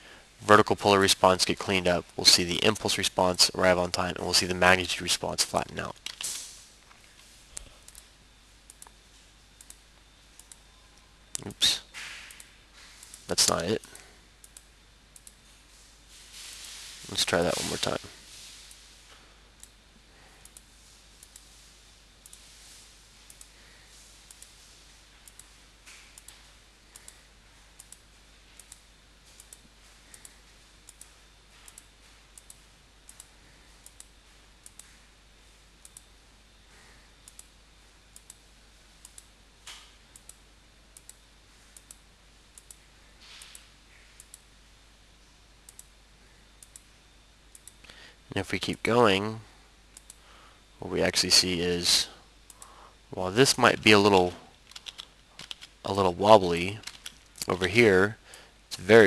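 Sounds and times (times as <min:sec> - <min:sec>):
low steady hiss: 0:00.0 - 0:59.0.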